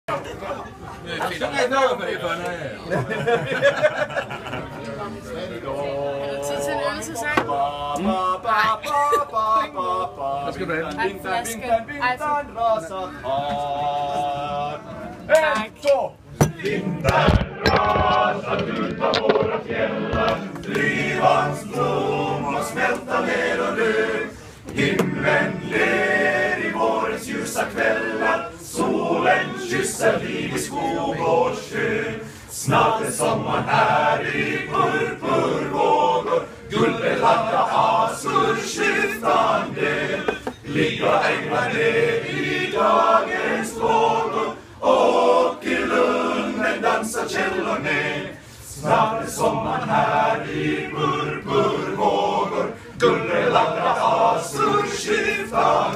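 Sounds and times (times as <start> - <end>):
male choir singing a cappella: 5.2 - 11.9, 12.5 - 15.1, 16.4 - 55.9.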